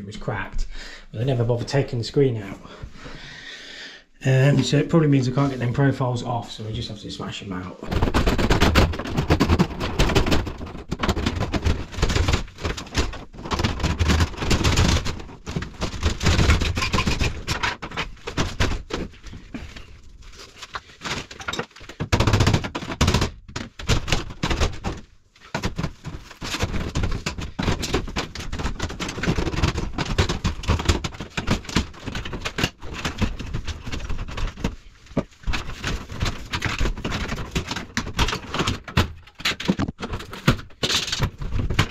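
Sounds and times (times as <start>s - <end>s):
tiles being smashed: 7.9s - 41.9s.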